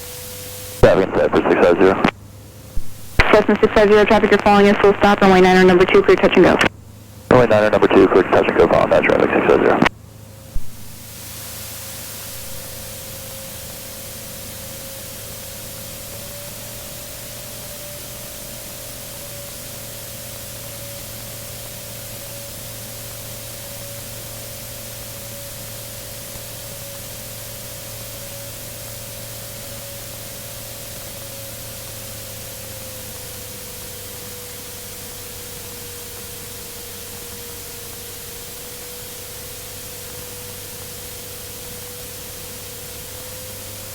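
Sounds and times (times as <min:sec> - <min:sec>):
radio static hiss: 0:00.2 - 0:09.9, 0:10.6 - 0:43.9.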